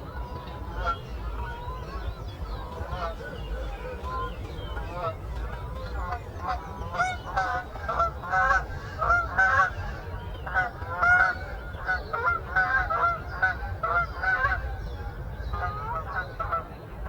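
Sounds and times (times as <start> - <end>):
flock of birds calling: 0.0 - 16.7.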